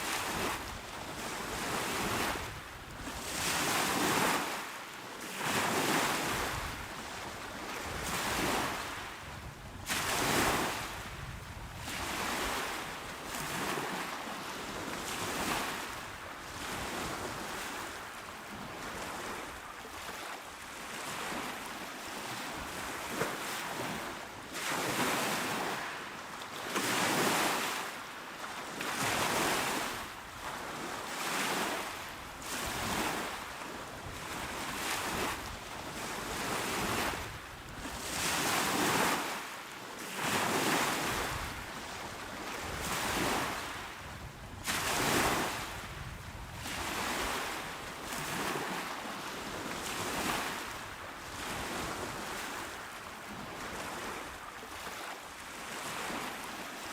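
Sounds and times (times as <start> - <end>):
small waves washing onto shore: 0.0 - 56.9.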